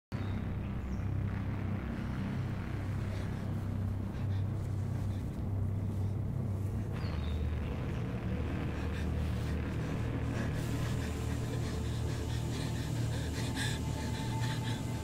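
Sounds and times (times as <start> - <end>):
low rumbling drone: 0.2 - 15.0.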